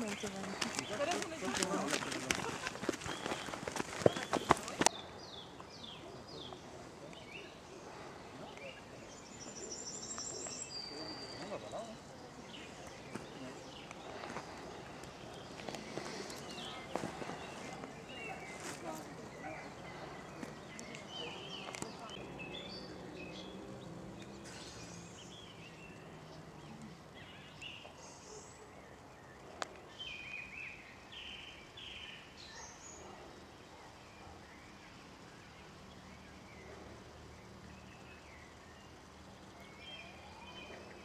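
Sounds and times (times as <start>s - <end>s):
birds chirping: 0.0s - 41.0s
faint outdoor background noise: 0.0s - 41.0s.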